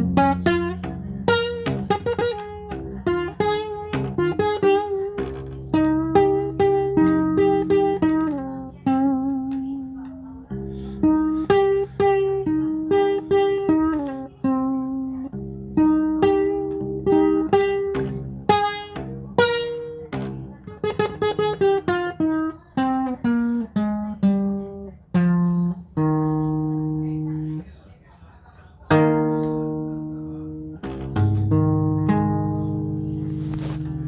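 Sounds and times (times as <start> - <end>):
guitar playing slow melody: 0.0 - 27.8, 28.8 - 34.0.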